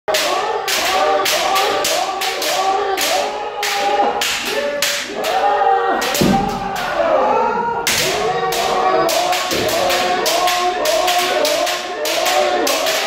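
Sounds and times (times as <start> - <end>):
people shouting: 0.1 - 13.0.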